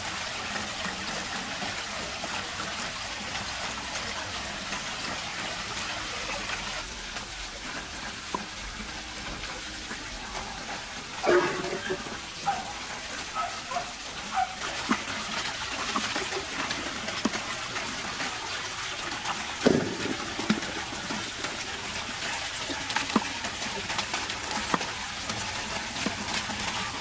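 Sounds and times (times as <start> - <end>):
water running from pipe: 0.0 - 27.0.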